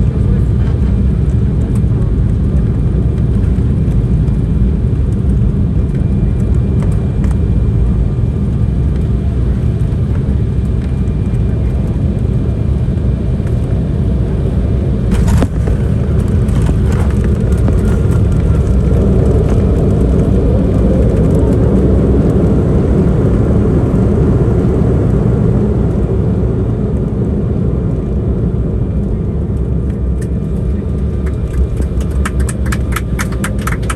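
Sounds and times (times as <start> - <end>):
airliner cabin engine noise: 0.0 - 33.9.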